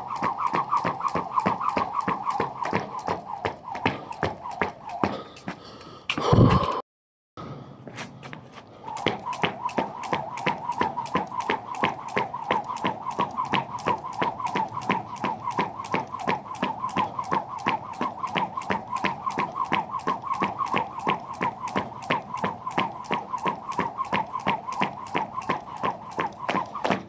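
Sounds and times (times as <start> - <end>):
jump rope slapping the ground: 0.0 - 6.4, 8.3 - 27.0.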